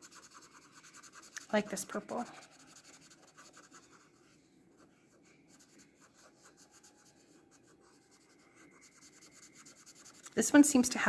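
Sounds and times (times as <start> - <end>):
marker scratching on paper: 0.0 - 11.0.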